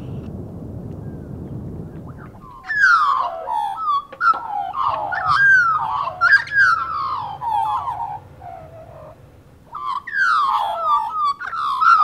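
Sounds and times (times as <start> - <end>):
birds warbling calls: 2.0 - 12.0.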